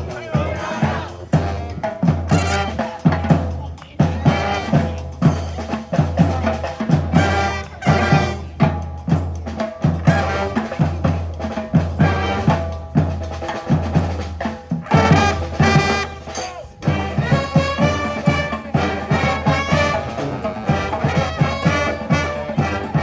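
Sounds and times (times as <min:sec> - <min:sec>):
horns playing: 0:00.0 - 0:03.3, 0:04.1 - 0:13.6, 0:14.8 - 0:23.0
snare and bass drum beat: 0:00.0 - 0:23.0.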